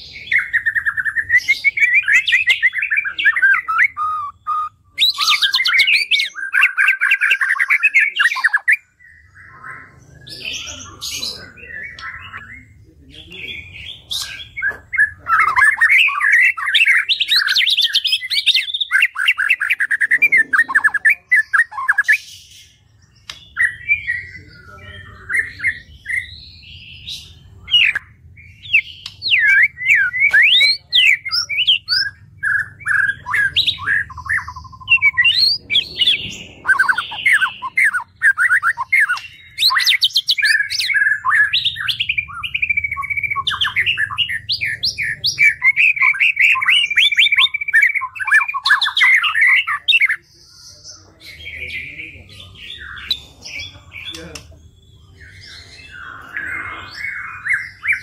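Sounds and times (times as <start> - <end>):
bird singing whistles and trills: 0.0 - 58.0.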